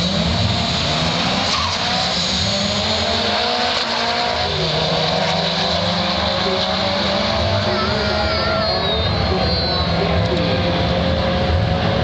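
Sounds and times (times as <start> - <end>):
drag cars at full throttle: 0.0 - 12.0.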